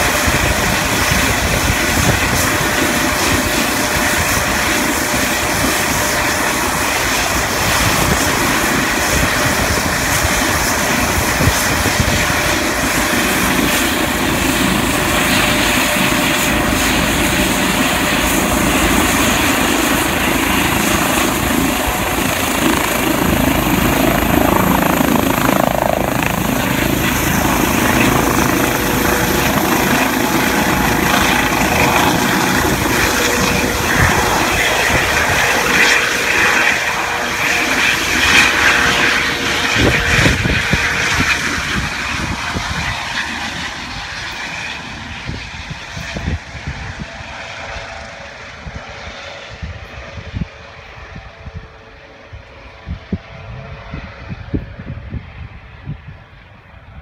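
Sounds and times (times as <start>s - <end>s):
helicopter engines and rotor: 0.0s - 57.0s.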